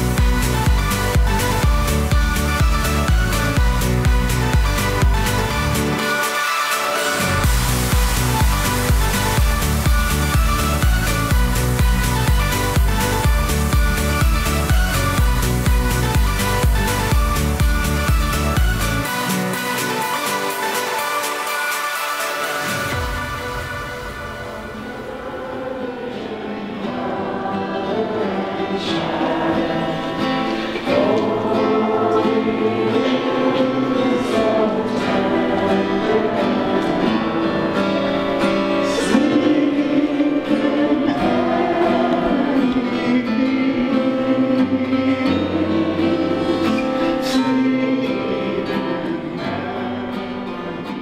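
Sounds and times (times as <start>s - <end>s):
choir-like singing with instruments: 0.0s - 51.0s.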